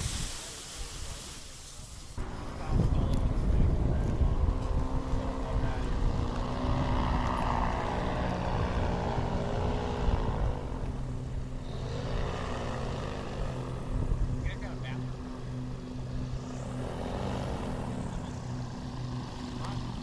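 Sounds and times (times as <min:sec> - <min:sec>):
paramotor engine droning: 0:02.2 - 0:20.0.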